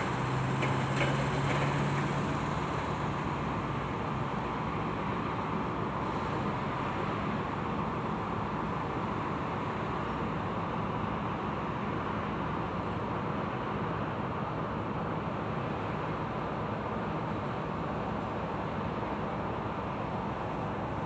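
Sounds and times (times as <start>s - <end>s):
distant engines rumbling: 0.0s - 21.0s
low engine hum: 0.0s - 21.0s.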